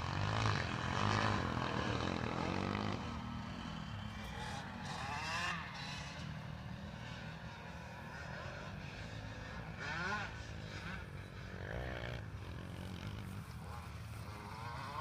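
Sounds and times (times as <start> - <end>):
dirt bike engines droning: 0.0 - 15.0
dirt bike revving: 0.0 - 15.0.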